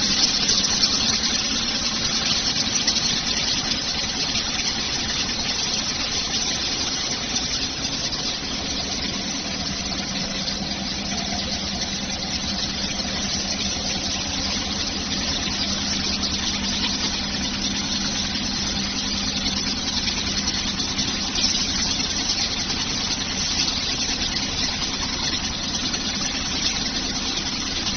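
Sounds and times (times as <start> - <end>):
quilting machine running: 0.0 - 27.9.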